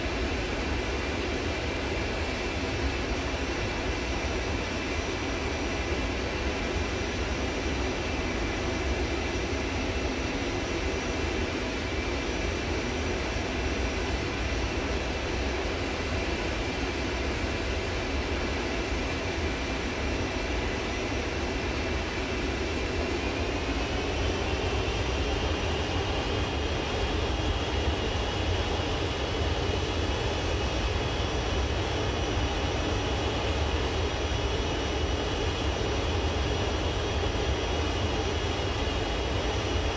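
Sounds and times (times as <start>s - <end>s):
jet engines whining: 0.2s - 39.9s.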